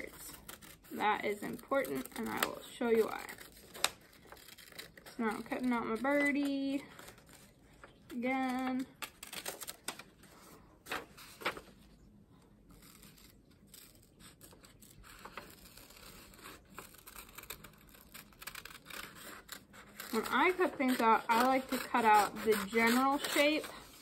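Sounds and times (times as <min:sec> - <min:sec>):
scissors cutting paper: 0:00.0 - 0:11.6, 0:12.7 - 0:24.0.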